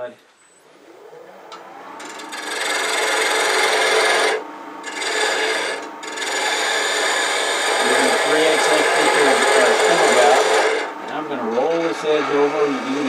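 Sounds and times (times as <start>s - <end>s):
lathe gouge shaving wood: 2.0s - 13.0s.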